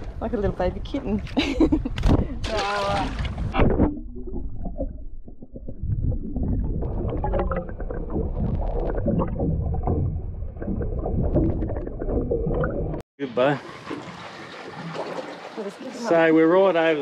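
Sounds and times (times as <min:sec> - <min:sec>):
underwater rumble of moving water: 0:00.0 - 0:17.0.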